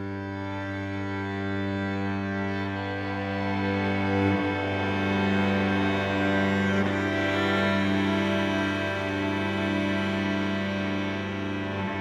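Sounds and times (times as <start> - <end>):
string quartet slow notes: 0.0 - 12.0.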